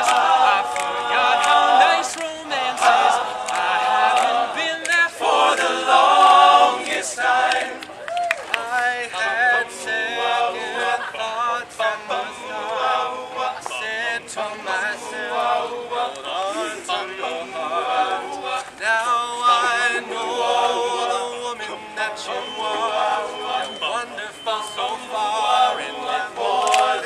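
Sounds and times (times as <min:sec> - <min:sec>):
male a cappella group singing: 0:00.0 - 0:07.8, 0:08.5 - 0:27.0.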